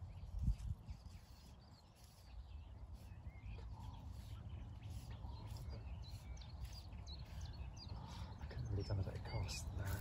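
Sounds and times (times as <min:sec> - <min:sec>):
songbirds chirping: 0:00.0 - 0:10.0
wind buffeting microphone: 0:00.0 - 0:10.0.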